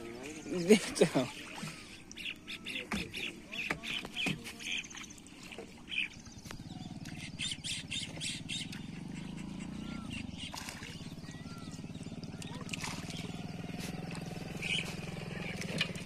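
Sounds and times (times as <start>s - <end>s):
birds chirping and squawking: 0.0s - 16.0s.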